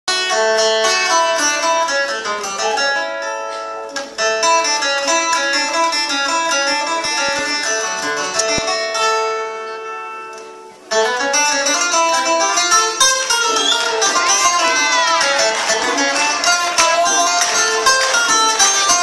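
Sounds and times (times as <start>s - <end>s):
plucked string instrument melody: 0.1s - 19.0s.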